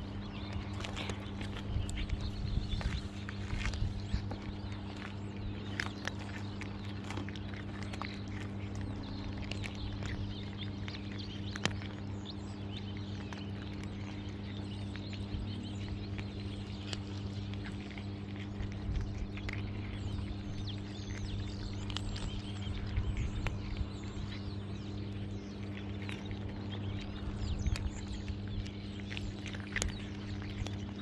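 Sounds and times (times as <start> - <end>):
cats crunching dry kibble: 0.0 - 31.0
steady low hum: 0.0 - 31.0.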